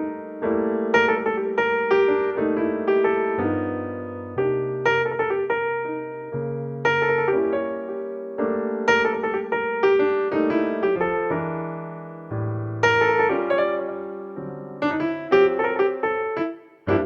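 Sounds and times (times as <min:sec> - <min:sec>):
gentle solo piano melody: 0:00.0 - 0:17.0.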